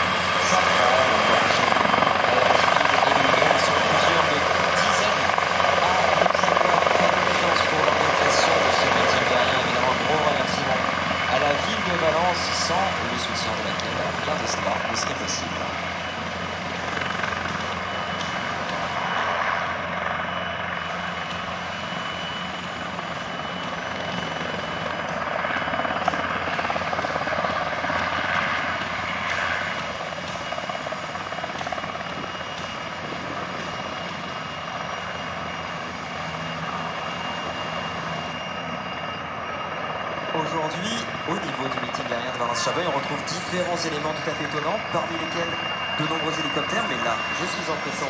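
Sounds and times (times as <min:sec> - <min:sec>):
helicopter rotor beating: 0:00.0 - 0:48.0
high turbine whine: 0:00.0 - 0:48.0
second helicopter hovering: 0:00.0 - 0:48.0.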